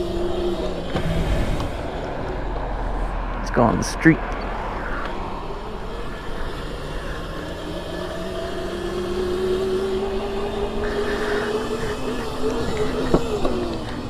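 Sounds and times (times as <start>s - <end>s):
electric dirt bike motor whining: 0.0s - 3.3s, 4.3s - 14.0s
wind and road noise: 0.0s - 14.0s.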